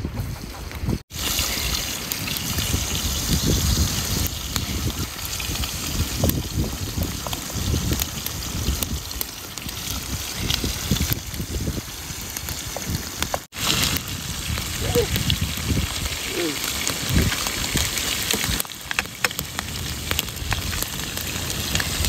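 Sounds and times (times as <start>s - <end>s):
wind gusting against microphone: 0.0s - 18.6s.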